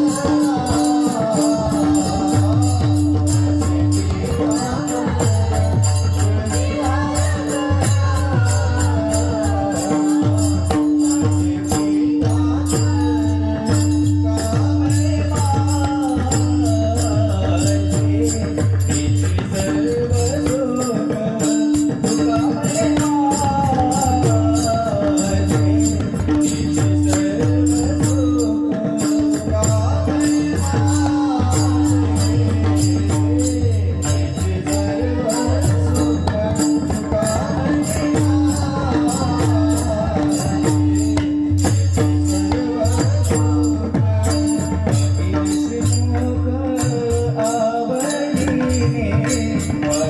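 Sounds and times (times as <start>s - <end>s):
hand cymbals striking: 0.0s - 50.0s.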